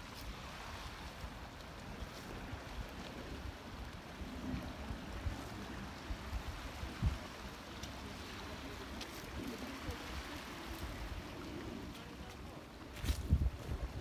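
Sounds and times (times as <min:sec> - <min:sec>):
wind buffeting microphone: 0:00.0 - 0:07.8, 0:08.4 - 0:14.0
waves lapping against rocks: 0:00.0 - 0:14.0.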